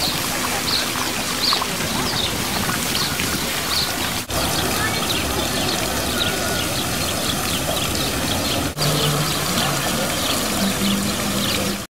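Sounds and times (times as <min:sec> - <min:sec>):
fountain water splashing: 0:00.0 - 0:11.9.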